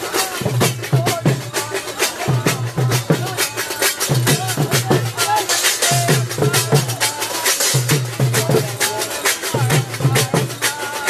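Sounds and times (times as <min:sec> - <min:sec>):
fast sharp drum strokes: 0:00.0 - 0:11.0.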